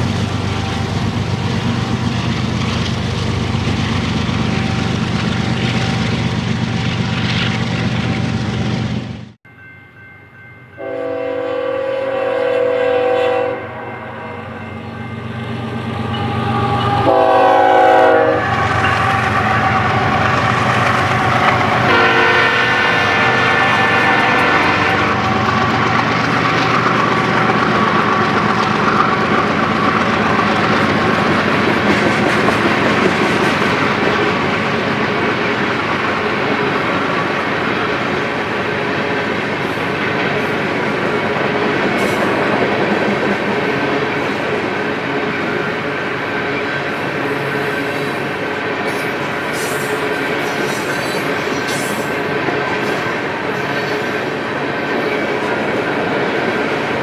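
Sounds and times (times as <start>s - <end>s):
train wheels clickety-clack on rails: 0.0s - 9.4s, 15.4s - 57.0s
diesel locomotive drone: 0.0s - 57.0s.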